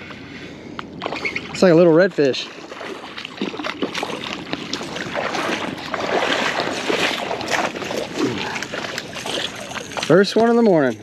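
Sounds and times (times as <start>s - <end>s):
fish thrashing and splashing: 1.0s - 11.0s.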